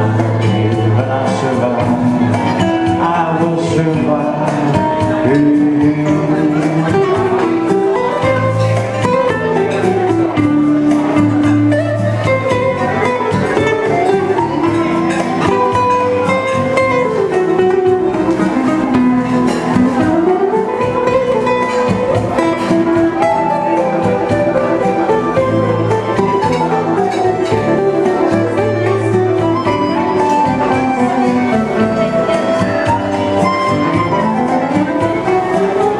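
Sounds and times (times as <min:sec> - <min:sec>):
classical guitar picked: 0:00.0 - 0:35.9
gliding melody line: 0:00.0 - 0:35.9.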